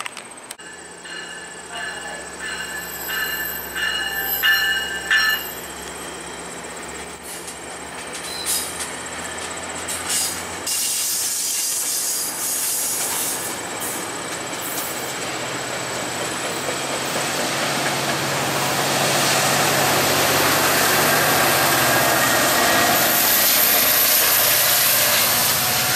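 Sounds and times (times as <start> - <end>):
locomotive engine hum: 0.0 - 25.9
train coaches rolling past: 0.1 - 25.9
train wheel clacks: 0.6 - 6.0, 7.0 - 25.9.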